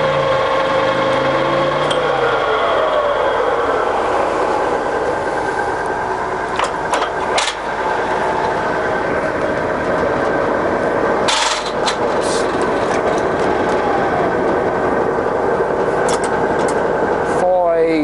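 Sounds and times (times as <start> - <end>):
lathe running with gear whine: 0.0 - 18.0.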